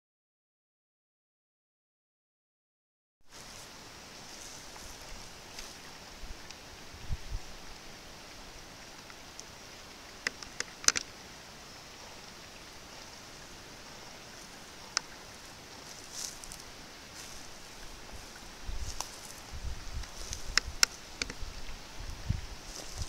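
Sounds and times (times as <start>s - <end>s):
faint forest hiss: 3.2s - 23.0s.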